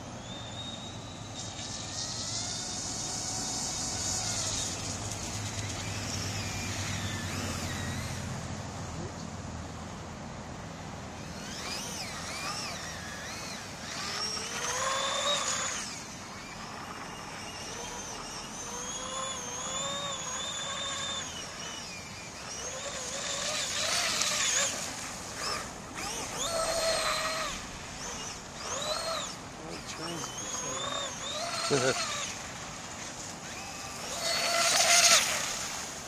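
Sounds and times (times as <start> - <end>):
electric boat motor whining: 0.0 - 9.4, 10.5 - 36.0.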